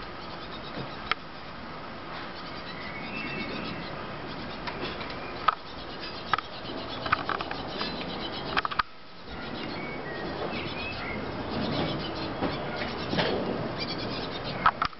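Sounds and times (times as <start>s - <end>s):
bird fledgling begging calls: 2.2s - 14.8s.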